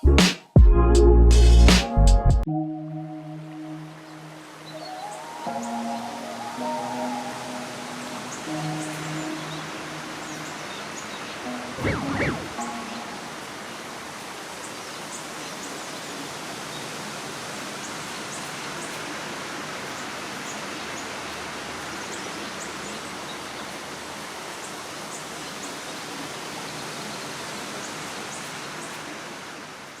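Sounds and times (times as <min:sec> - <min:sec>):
rushing creek: 0:04.1 - 0:30.0.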